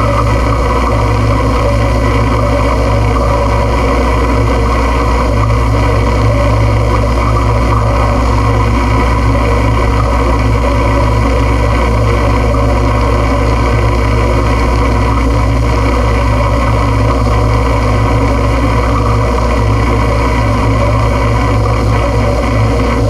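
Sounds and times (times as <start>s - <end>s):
noise music drone: 0.0s - 23.0s.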